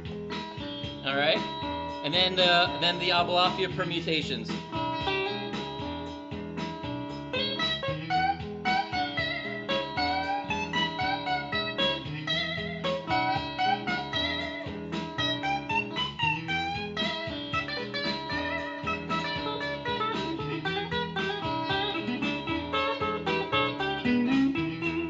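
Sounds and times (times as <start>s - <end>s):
drum machine beat: 0.0s - 25.0s
electric guitar lead: 0.0s - 25.0s
looped bass line: 0.0s - 25.0s.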